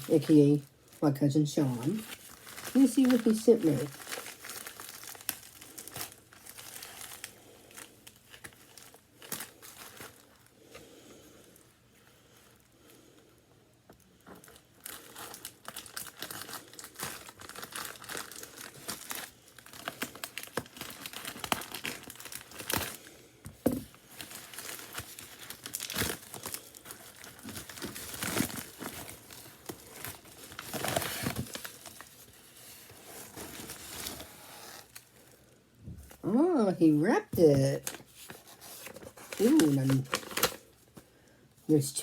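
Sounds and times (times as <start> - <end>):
paper and plastic crinkling: 0.0 - 13.1, 13.9 - 36.2, 37.2 - 41.2.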